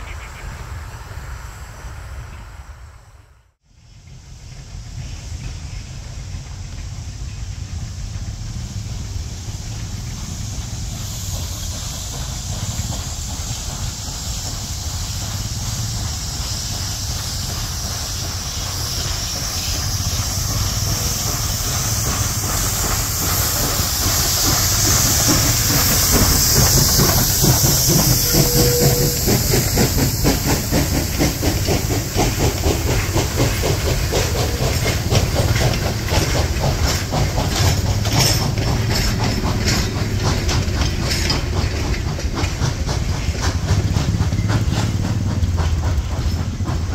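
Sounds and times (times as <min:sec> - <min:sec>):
steam locomotive hissing: 0:00.0 - 0:46.9
train wheels clicking over rail joints: 0:04.0 - 0:46.9.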